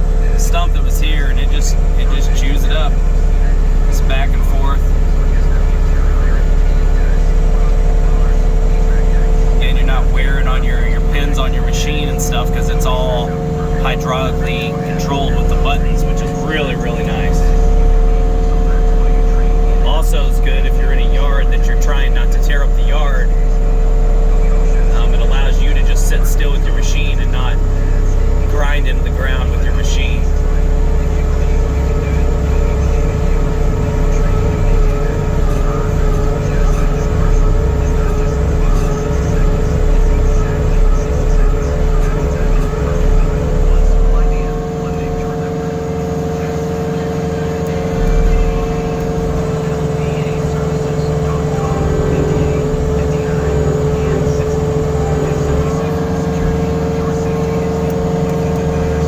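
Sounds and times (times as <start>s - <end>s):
hydraulic whine: 0.0s - 59.0s
loud engine rumble: 0.0s - 59.0s.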